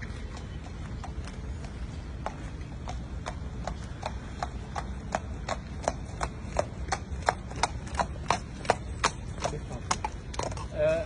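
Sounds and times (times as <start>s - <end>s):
horse hooves on wet pavement: 0.0s - 11.0s.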